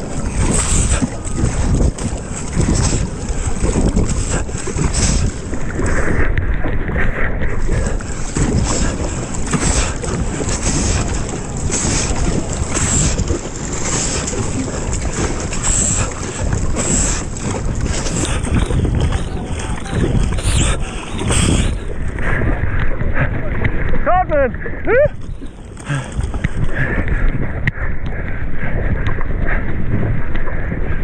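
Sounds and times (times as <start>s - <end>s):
paddle blades splashing: 0.0s - 31.0s
sea water splashing and sloshing: 0.0s - 31.0s
wind buffeting microphone: 0.0s - 31.0s.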